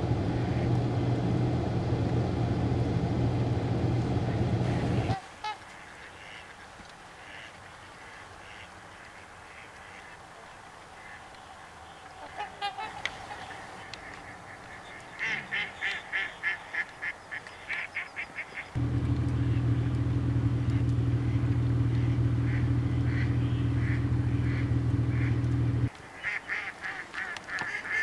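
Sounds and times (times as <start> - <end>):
faint steady hiss: 0.0 - 28.0
swans honking: 4.1 - 28.0.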